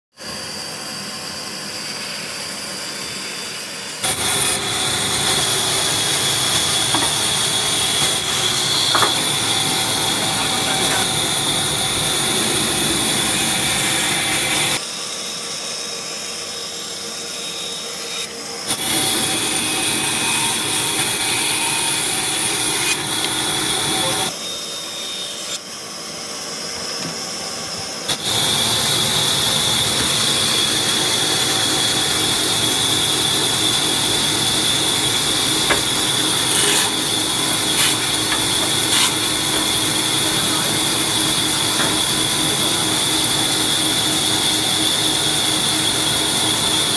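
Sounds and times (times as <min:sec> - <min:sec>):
band saw whining: 0:00.2 - 0:46.9.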